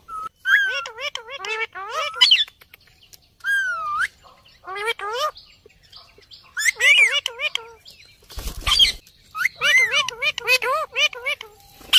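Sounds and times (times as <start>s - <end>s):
parakeets chattering: 0.4s - 11.9s.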